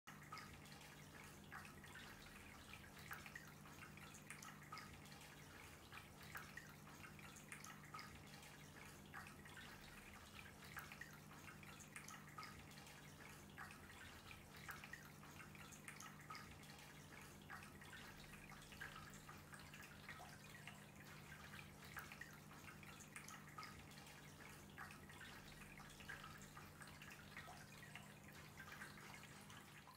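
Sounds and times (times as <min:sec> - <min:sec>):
water trickling and dripping: 0:00.1 - 0:29.9.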